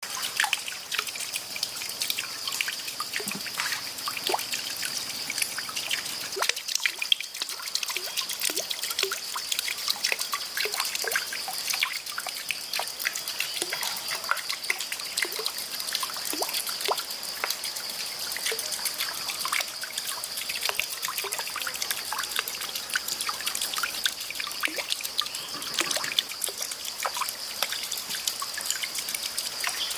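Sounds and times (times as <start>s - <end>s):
river water trickling: 0.0s - 29.9s.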